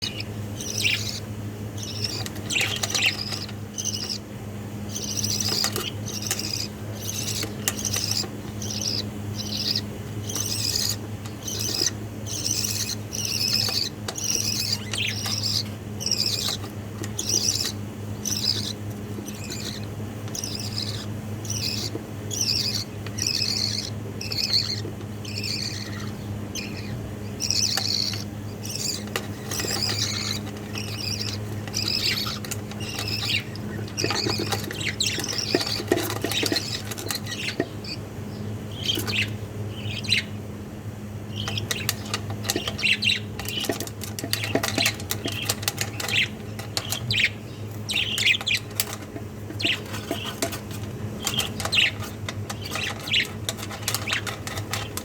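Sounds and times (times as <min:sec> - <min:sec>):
budgerigar chicks chirping: 0:00.0 - 0:40.5, 0:41.2 - 0:55.0.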